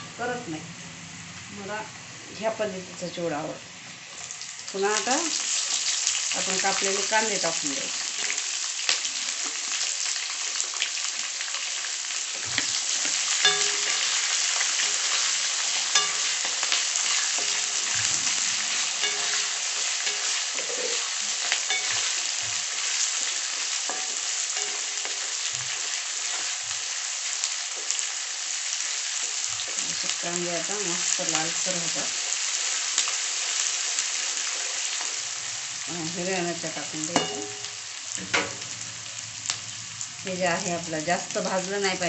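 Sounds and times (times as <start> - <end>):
onions sizzling in hot oil: 0.0 - 42.0.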